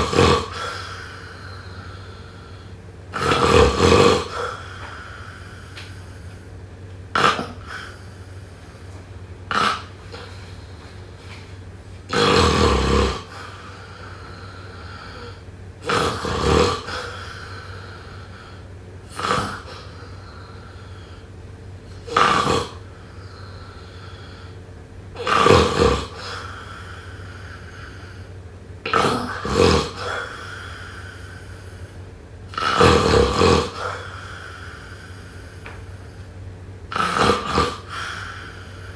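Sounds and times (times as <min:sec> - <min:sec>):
person snoring: 0:00.0 - 0:06.3, 0:07.2 - 0:08.8, 0:09.5 - 0:10.6, 0:12.1 - 0:21.3, 0:22.0 - 0:24.5, 0:25.2 - 0:28.3, 0:28.9 - 0:31.8, 0:32.5 - 0:35.5, 0:36.9 - 0:38.9
steady low hum: 0:00.0 - 0:38.9.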